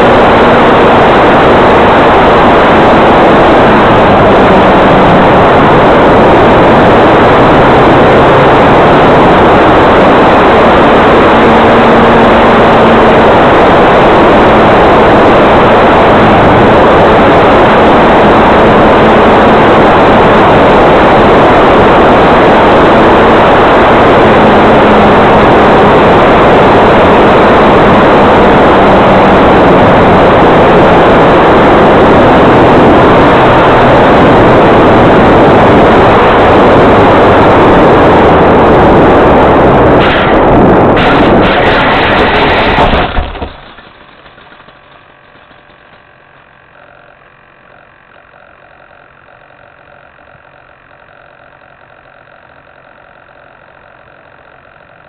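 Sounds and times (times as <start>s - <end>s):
loud rushing noise: 0.0s - 45.0s
model plane motor humming: 0.0s - 55.0s.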